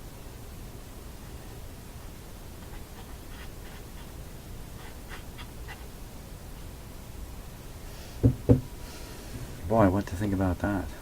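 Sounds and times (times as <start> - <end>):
tube radio hiss and hum: 0.0 - 11.0.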